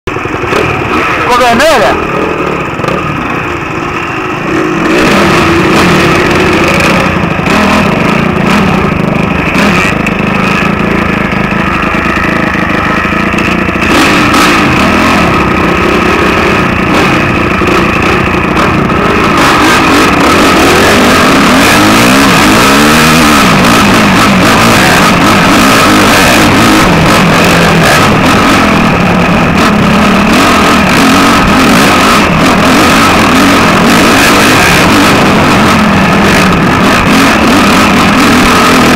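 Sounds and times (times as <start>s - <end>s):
dirt bike engine: 0.1s - 38.9s.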